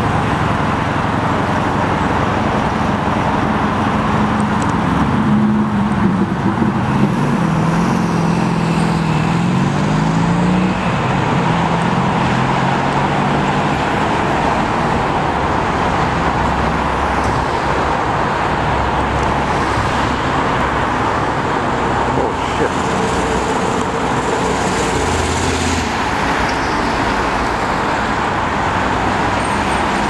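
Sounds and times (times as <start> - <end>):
steady traffic noise: 0.0 - 30.0.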